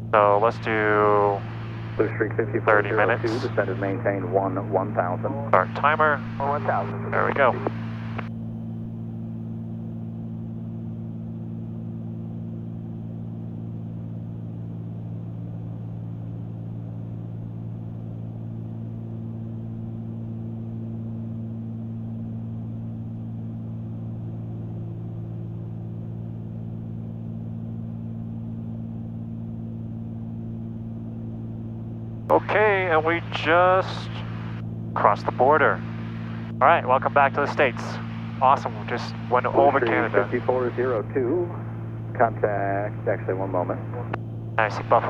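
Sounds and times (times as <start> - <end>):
aircraft engines droning in flight: 0.0 - 45.0.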